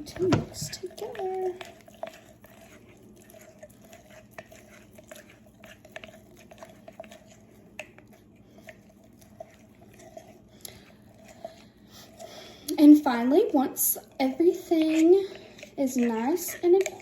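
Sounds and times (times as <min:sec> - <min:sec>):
spoon stirring thick paste: 0:00.0 - 0:17.0.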